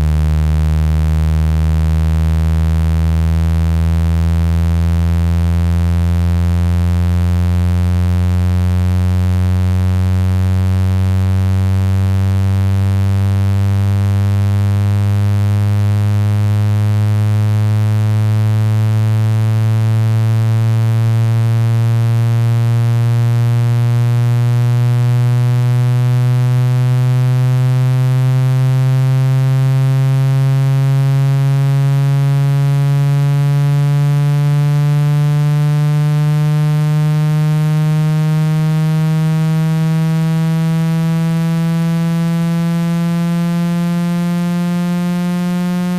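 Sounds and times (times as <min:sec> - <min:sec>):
buzzing rising test tone: 0:00.0 - 0:45.9.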